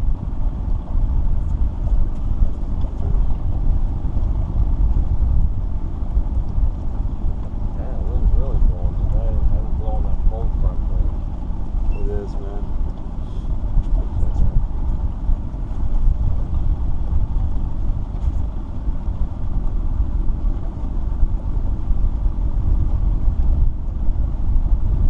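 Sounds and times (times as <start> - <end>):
boat low rumble: 0.0 - 25.0.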